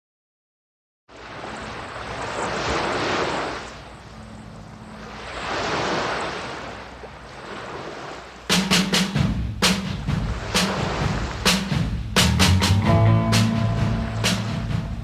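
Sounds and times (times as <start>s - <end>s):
ocean waves washing: 1.1s - 15.0s.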